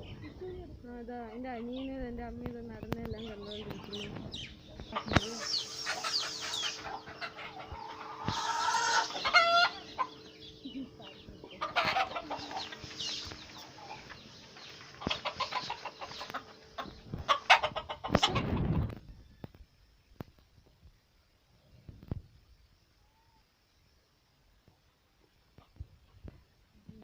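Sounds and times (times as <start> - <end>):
chickens clucking: 0.0 - 19.6, 24.6 - 27.0
steady low hum: 0.0 - 27.0.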